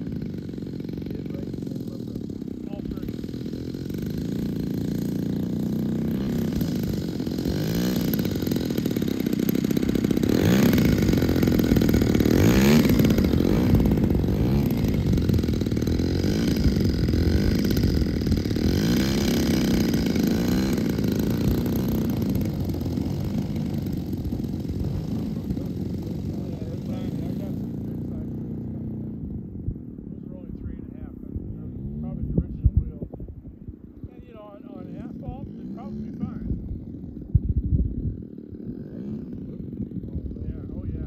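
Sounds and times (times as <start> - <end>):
model plane engine and propeller: 0.0 - 41.0.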